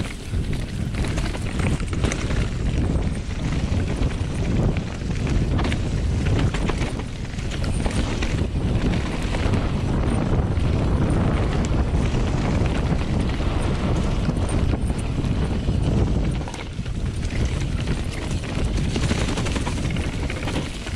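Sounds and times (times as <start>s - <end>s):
bike rattling clicks: 0.0s - 20.9s
tyres rumbling over dirt: 0.0s - 20.9s
wind buffeting microphone: 0.0s - 20.9s.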